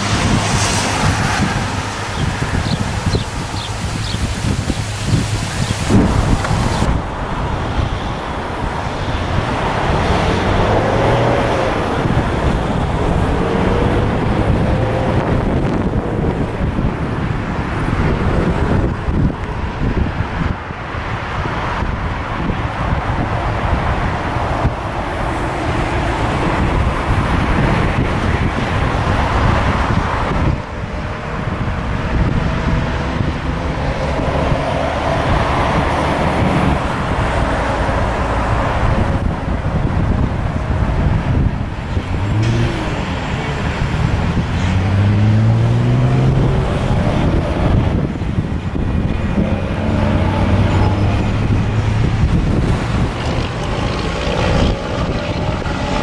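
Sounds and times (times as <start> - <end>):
passing vehicle hum: 0.0 - 56.0
road traffic: 0.0 - 56.0
wind buffeting microphone: 0.0 - 56.0.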